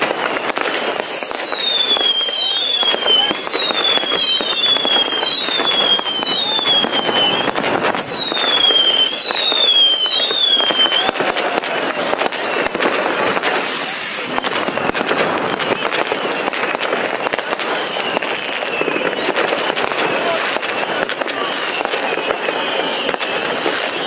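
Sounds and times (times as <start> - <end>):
falling firework whistles: 0.0 - 24.0
fireworks bangs and crackles: 0.0 - 24.0
hissing firework burst: 0.0 - 24.0.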